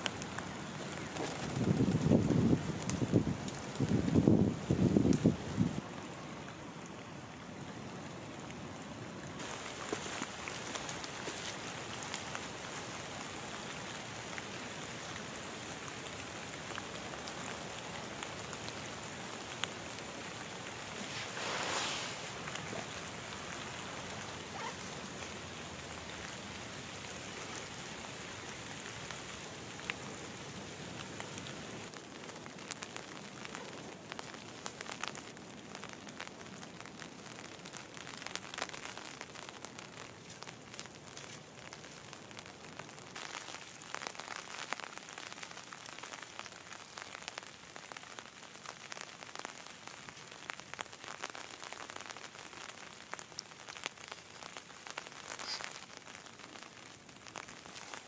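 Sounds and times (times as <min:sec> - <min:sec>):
raindrops ticking: 0:00.0 - 0:07.0, 0:09.4 - 0:21.0, 0:22.2 - 0:58.0
rain on leaves and trees: 0:00.0 - 0:58.0.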